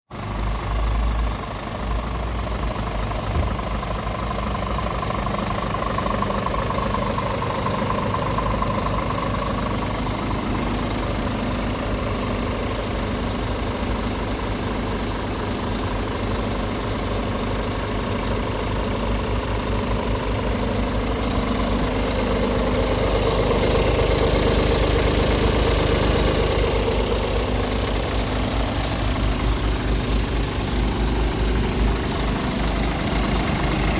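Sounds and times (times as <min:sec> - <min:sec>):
truck diesel engine idling: 0:00.1 - 0:33.9.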